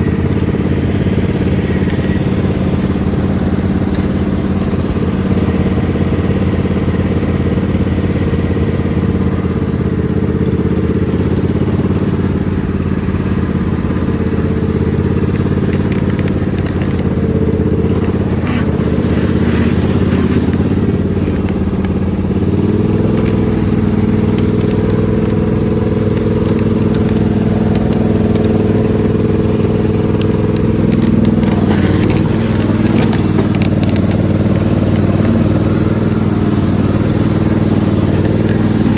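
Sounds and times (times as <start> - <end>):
riding lawn mower engine: 0.0 - 38.9.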